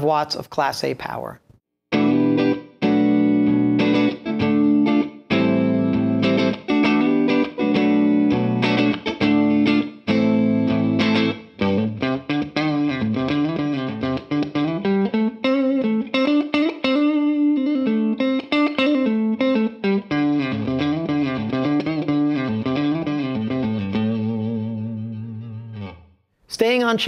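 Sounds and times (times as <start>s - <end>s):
electric guitar chords: 1.9s - 26.1s
electric guitar riff: 1.9s - 26.1s.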